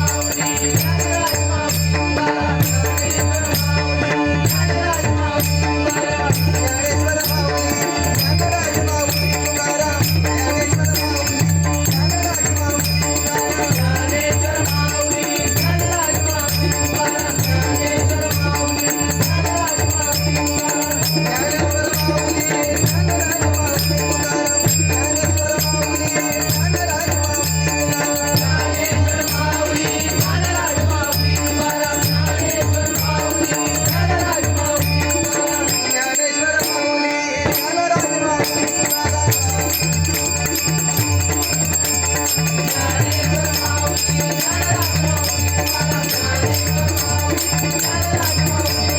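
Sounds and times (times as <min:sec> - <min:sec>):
small hand cymbals: 0:00.0 - 0:48.9.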